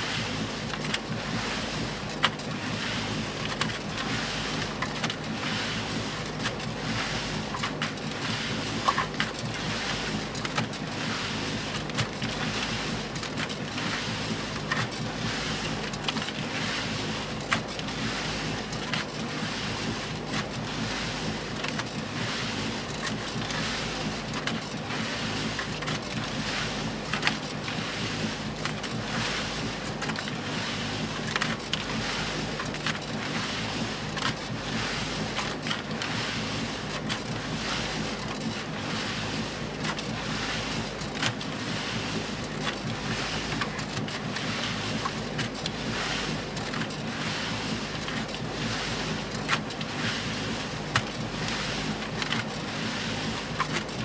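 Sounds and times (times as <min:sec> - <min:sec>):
concrete churning in mixer drum: 0:00.0 - 0:54.0
faint low motor hum: 0:00.0 - 0:54.0.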